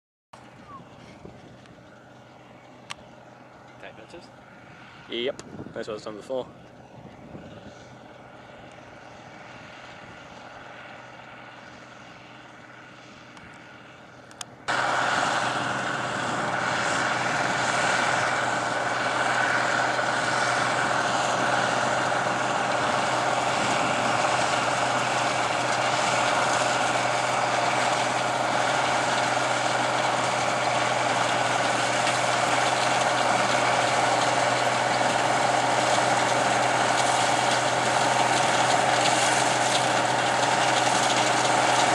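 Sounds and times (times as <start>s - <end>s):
combine harvester machinery drone: 0.4s - 41.9s.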